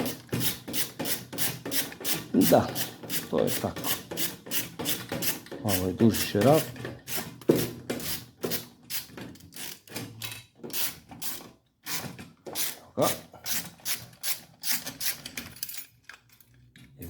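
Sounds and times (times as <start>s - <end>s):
hand tool rasping on bolt: 0.0s - 10.1s, 10.7s - 15.4s.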